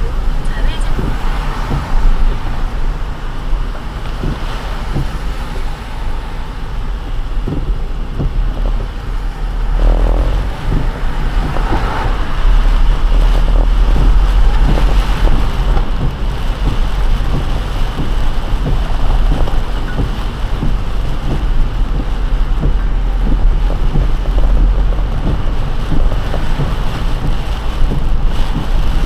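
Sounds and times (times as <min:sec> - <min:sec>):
tyres hissing on wet road: 0:00.0 - 0:29.0
water ticking: 0:00.0 - 0:29.0
wind noise: 0:00.0 - 0:29.0.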